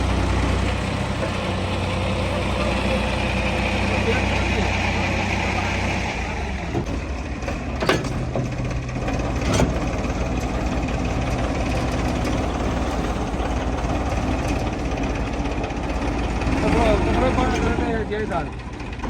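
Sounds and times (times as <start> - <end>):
diesel engines running: 0.0 - 19.0.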